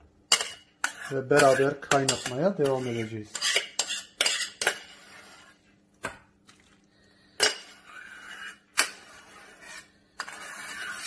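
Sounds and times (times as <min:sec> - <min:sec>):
spoon scraping rice from saucepan: 0:00.3 - 0:05.7, 0:07.3 - 0:11.0.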